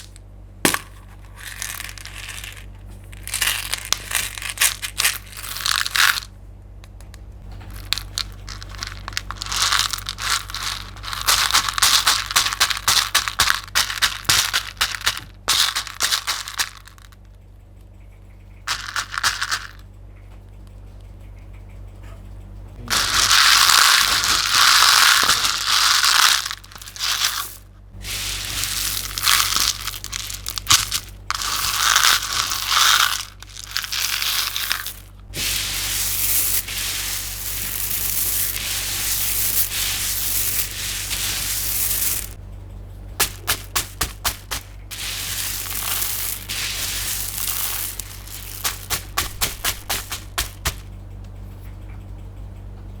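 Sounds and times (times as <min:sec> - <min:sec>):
slime and candy crunching: 0:00.0 - 0:06.3, 0:07.6 - 0:17.1, 0:18.7 - 0:19.8, 0:22.8 - 0:42.4, 0:43.2 - 0:50.9
steady low hum: 0:00.0 - 0:53.0.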